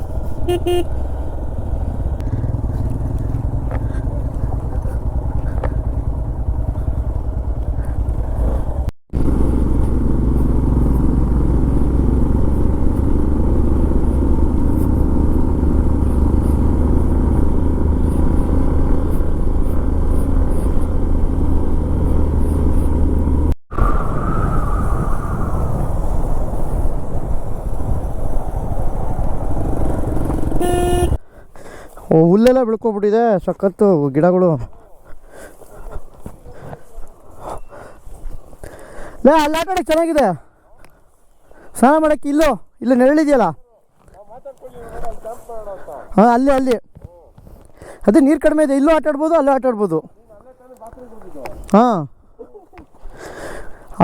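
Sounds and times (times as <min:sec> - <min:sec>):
motorcycle engine rumble: 0:00.0 - 0:41.8, 0:50.2 - 0:54.0
road noise: 0:00.0 - 0:54.0.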